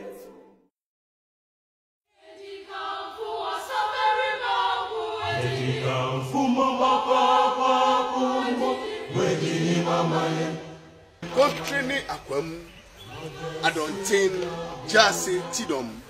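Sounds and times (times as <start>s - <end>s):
group of voices chanting: 2.2s - 16.0s.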